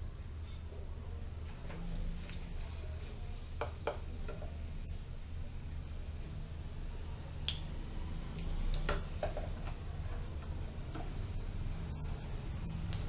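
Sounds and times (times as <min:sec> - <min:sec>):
steady low hum: 0:00.0 - 0:13.0
hot oil crackling and popping: 0:01.8 - 0:13.0.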